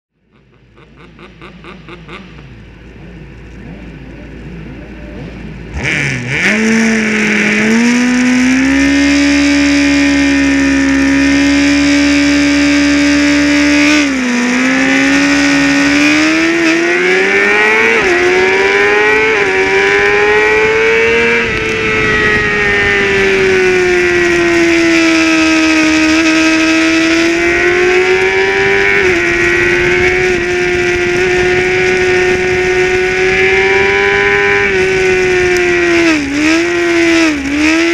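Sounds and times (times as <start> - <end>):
motorcycle engine revving: 0.2 - 37.9.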